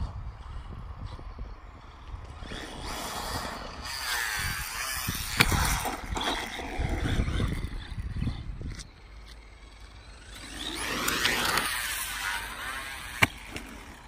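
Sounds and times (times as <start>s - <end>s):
electric motor whine: 1.5s - 14.0s
tyres rasping on dirt: 2.4s - 14.0s.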